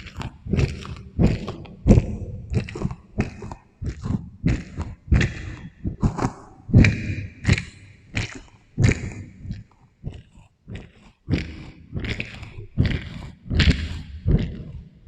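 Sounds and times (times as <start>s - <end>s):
wet chewing: 0.0s - 14.9s.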